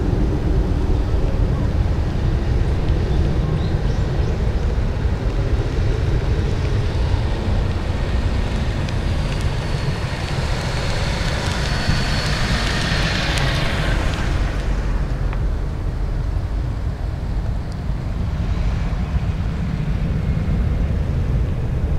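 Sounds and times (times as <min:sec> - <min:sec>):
jet engine whine and hiss: 0:00.0 - 0:21.9
wind rumble on microphone: 0:00.0 - 0:21.9.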